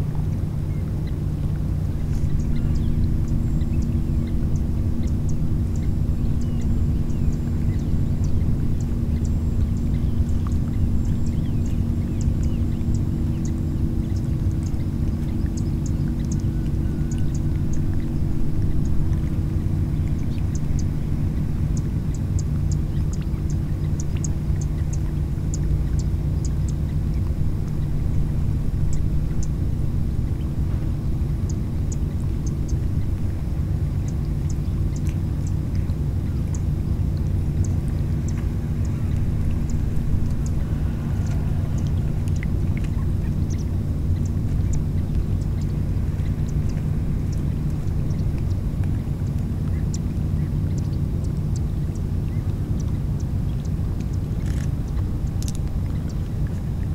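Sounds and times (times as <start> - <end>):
engine rumble: 0.0 - 56.9
faint high ticks: 0.1 - 56.9.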